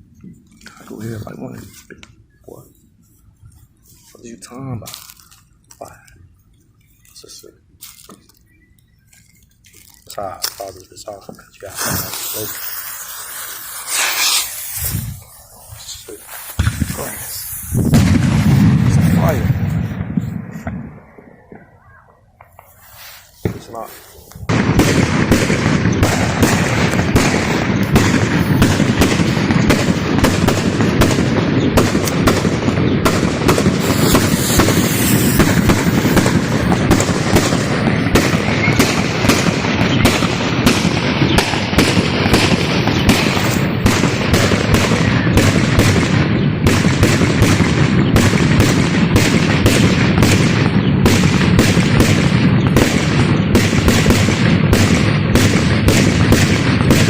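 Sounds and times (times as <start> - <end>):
firecrackers crackling: 3.8 - 6.2, 7.0 - 57.0.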